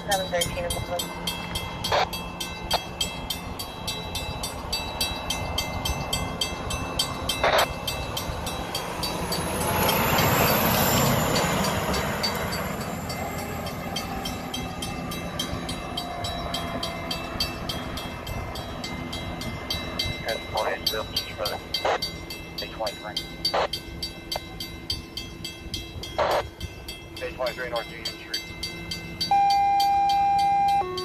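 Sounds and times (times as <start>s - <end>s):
fire engine engine and road rumble: 0.0s - 31.0s.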